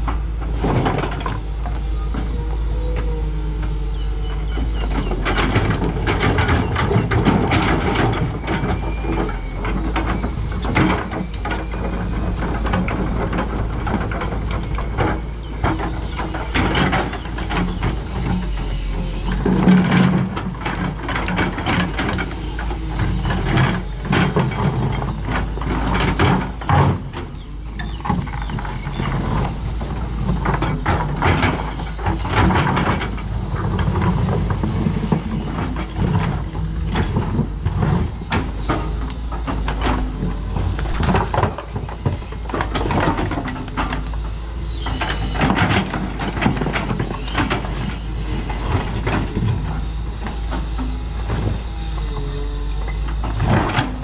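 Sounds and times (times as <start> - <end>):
excavator diesel engine running: 0.0 - 54.0
metal clanks and rattles: 4.4 - 51.7, 52.9 - 54.0.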